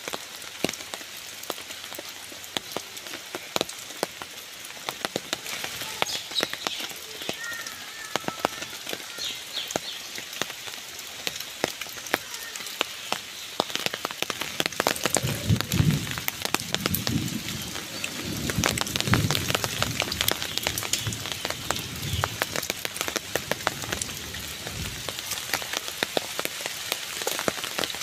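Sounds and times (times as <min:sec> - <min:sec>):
rain on leaf litter: 0:00.0 - 0:28.0.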